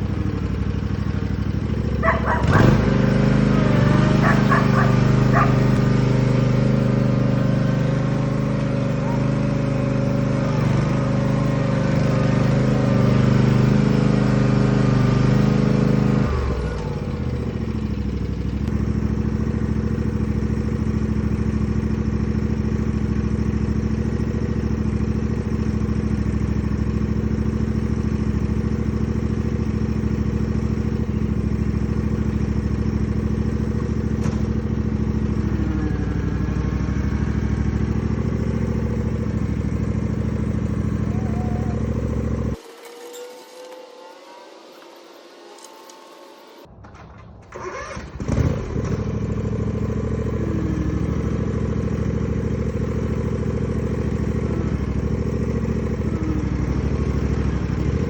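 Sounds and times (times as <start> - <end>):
engine revving: 0.0 - 58.0.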